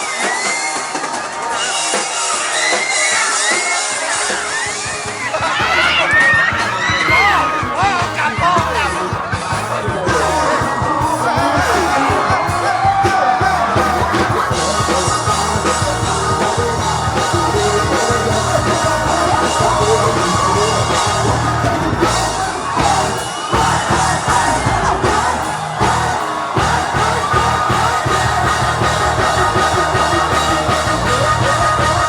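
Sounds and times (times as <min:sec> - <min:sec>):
loud music: 0:00.0 - 0:32.0
voices singing and shouting: 0:00.0 - 0:32.0.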